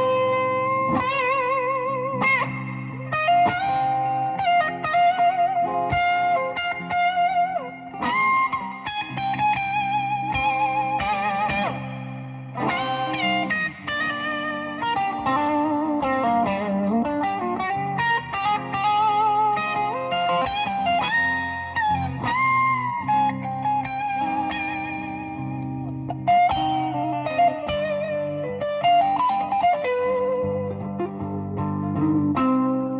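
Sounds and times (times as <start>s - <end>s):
electric guitar lead with bends: 0.0s - 32.9s
held low guitar notes: 0.0s - 32.9s.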